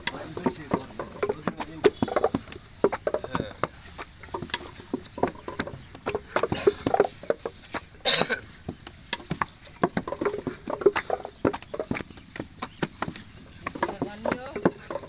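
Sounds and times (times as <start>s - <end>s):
moulds thudding on sandy ground: 0.0s - 15.0s
sand scraping: 0.0s - 15.0s
wet clay slapping into moulds: 0.0s - 15.0s.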